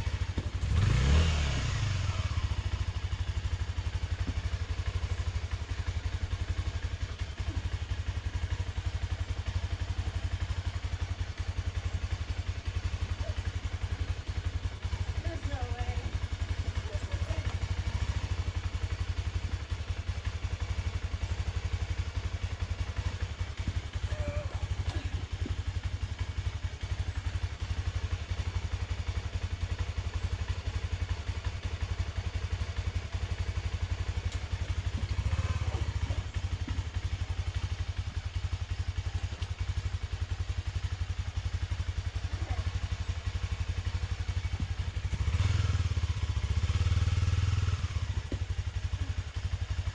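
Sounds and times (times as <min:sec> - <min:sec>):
motorcycle engine idling: 0:00.0 - 0:49.9
motorcycle throttle revving: 0:00.0 - 0:49.9.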